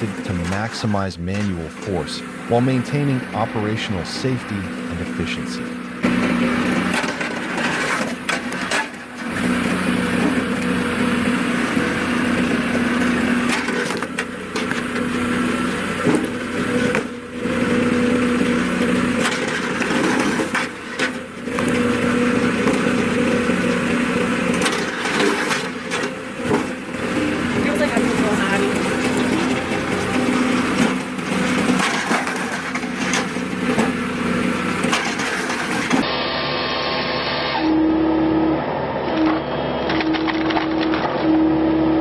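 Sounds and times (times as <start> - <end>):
machine hum: 0.0 - 42.0.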